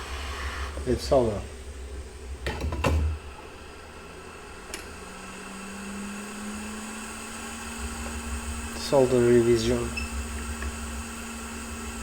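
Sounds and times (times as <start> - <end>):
equipment hum and fan whir: 0.0 - 12.0.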